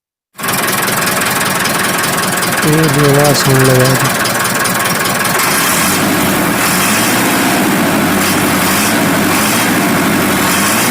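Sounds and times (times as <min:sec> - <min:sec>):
tractor diesel engine idling: 0:00.4 - 0:10.5.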